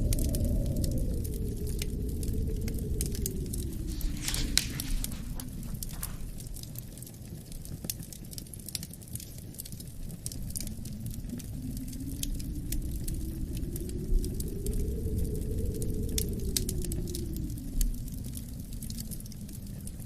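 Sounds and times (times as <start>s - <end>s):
low howling wind: 0.0s - 20.0s
wood fire crackling and popping: 0.0s - 20.0s.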